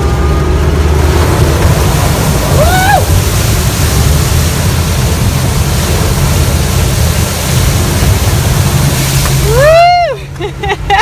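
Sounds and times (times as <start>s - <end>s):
diesel engine rumble: 0.0s - 11.0s
water crashing against windshield: 0.0s - 11.0s.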